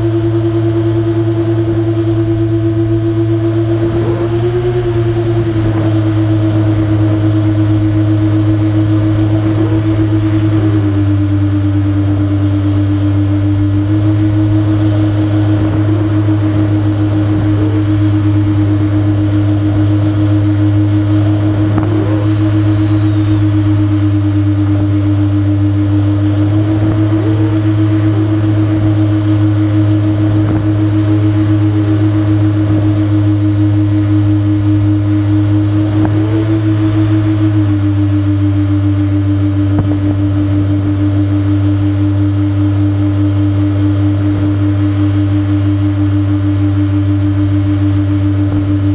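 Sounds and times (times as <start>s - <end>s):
model plane motors droning: 0.0s - 48.9s.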